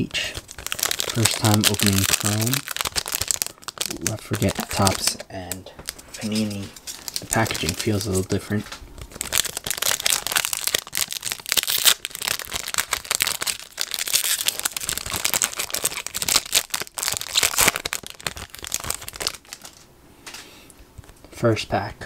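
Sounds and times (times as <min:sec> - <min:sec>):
foil wrapper crinkling and tearing: 0:00.2 - 0:05.2, 0:05.8 - 0:19.9.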